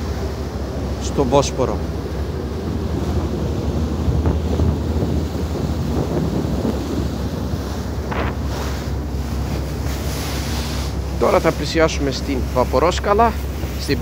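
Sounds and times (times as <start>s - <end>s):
low engine rumble: 0.0s - 14.0s
water rushing along ferry: 0.0s - 14.0s
wind buffeting microphone: 0.0s - 14.0s.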